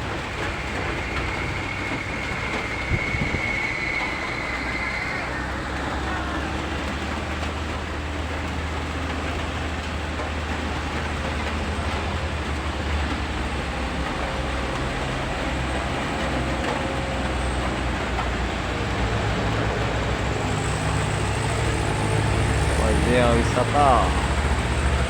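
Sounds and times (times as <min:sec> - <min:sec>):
heavy truck engine droning: 0:00.0 - 0:25.0
road noise: 0:00.0 - 0:25.0.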